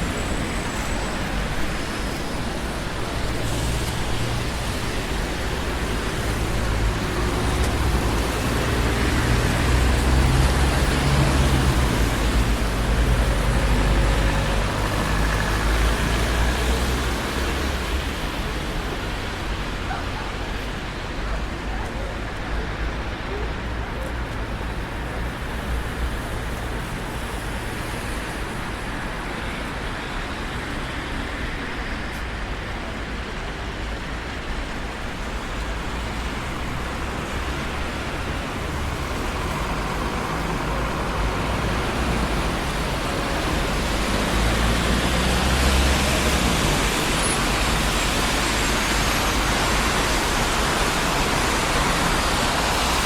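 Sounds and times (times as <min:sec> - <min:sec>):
city street traffic: 0:00.0 - 0:53.0
deep traffic rumble: 0:00.0 - 0:53.0.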